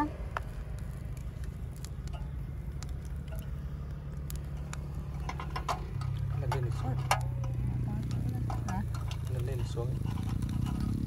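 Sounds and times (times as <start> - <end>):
food crackling on a grill: 0.0 - 11.0
steady low hum: 0.0 - 11.0
sharp pops and clicks: 0.1 - 11.0.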